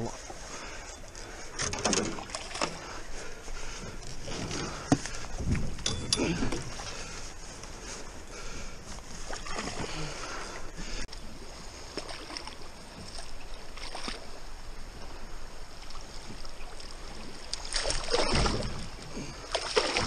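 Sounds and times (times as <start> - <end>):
fish splashing and thrashing: 0.0 - 14.8, 15.7 - 20.0
water sloshing: 0.0 - 20.0.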